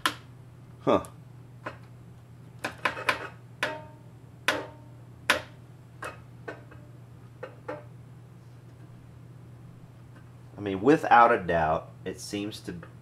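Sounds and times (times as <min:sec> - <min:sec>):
low amplifier hum: 0:00.0 - 0:13.0.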